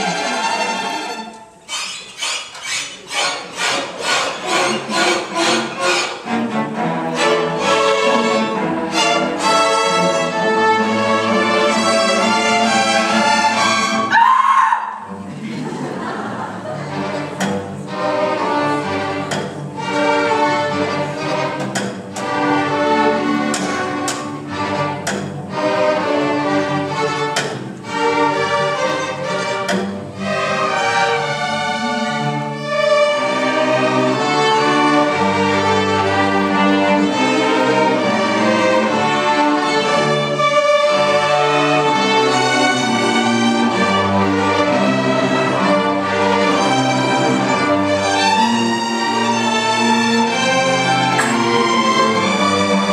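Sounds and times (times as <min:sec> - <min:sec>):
string orchestra playing chords: 0:00.0 - 0:52.9.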